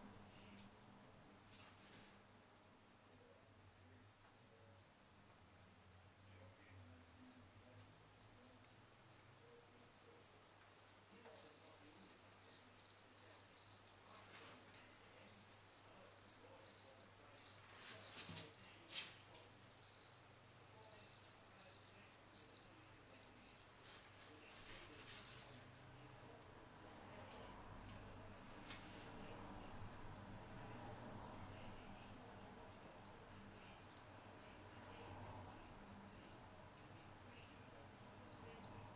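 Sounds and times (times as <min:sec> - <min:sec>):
cricket chirping: 0:03.3 - 0:38.9.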